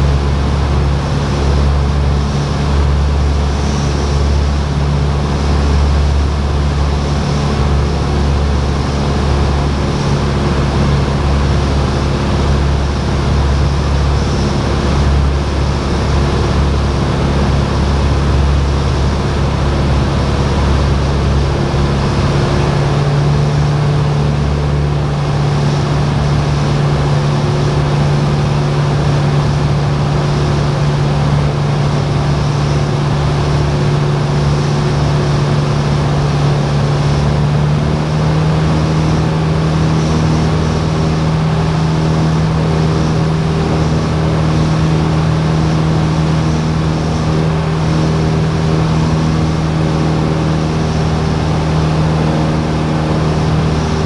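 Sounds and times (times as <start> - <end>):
airplane engine drone in cabin: 0.0 - 54.0.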